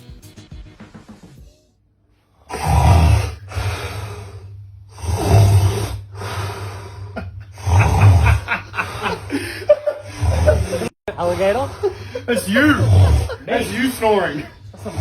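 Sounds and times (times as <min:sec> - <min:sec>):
man snoring loudly: 0:02.5 - 0:15.0.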